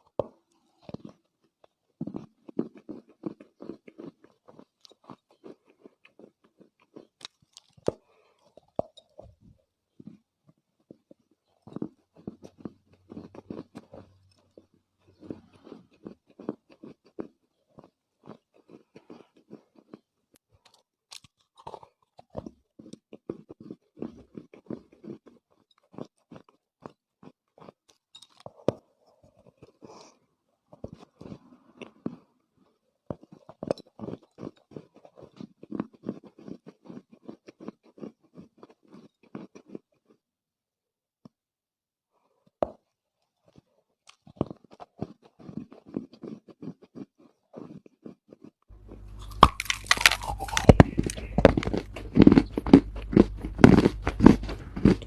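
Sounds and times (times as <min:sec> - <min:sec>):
dried clay chewed and crunched: 0:00.0 - 0:40.3, 0:42.4 - 0:55.0.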